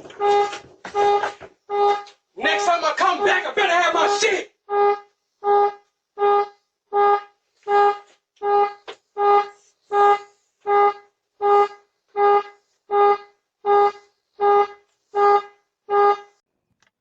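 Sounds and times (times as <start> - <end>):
car horn honking: 0.0 - 16.4.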